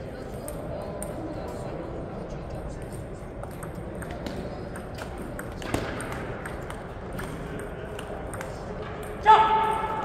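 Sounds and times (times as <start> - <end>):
gym background noise: 0.0 - 10.0.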